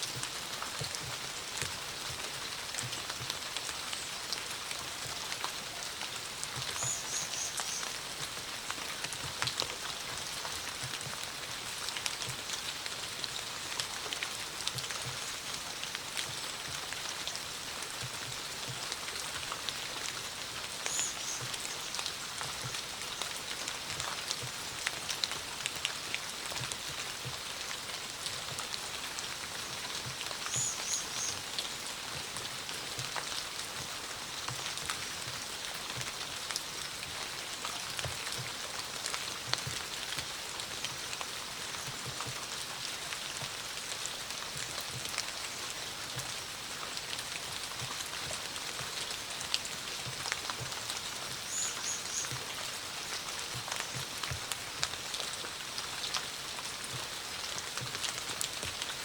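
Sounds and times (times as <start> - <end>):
raindrops ticking: 0.1 - 59.0.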